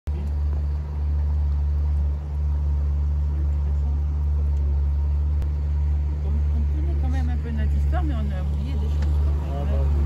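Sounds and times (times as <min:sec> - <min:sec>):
boat motor droning: 0:00.1 - 0:10.0.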